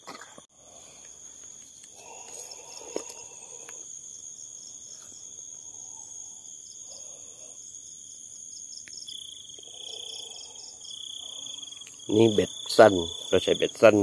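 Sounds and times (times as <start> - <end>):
crickets calling: 0.2 - 14.0.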